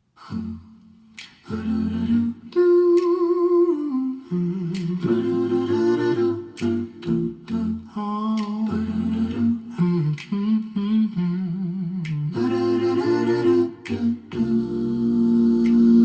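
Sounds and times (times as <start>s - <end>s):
humming vocal line: 0.2s - 16.0s.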